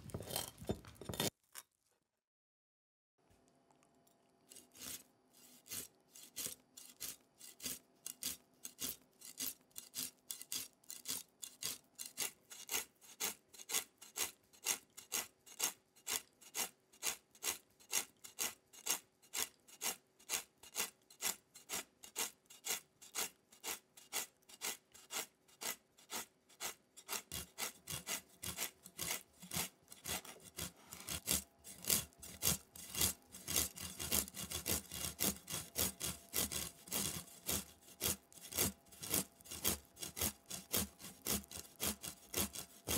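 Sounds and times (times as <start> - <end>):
knife scraping fish scales: 0.0 - 1.3, 4.5 - 42.9.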